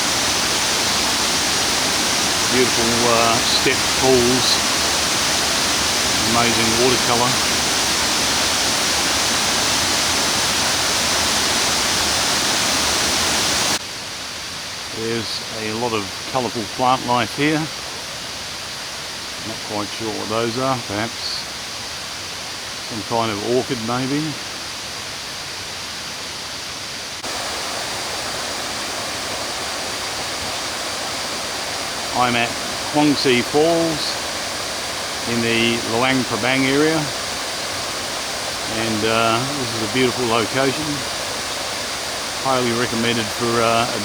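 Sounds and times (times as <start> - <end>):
water pouring down falls: 0.0 - 13.8, 14.5 - 44.0.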